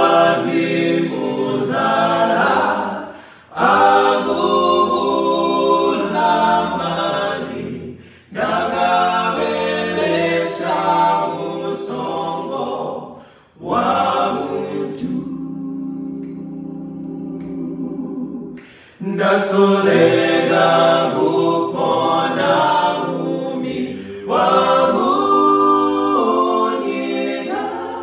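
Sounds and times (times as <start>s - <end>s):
male a cappella group singing: 0.0s - 28.0s.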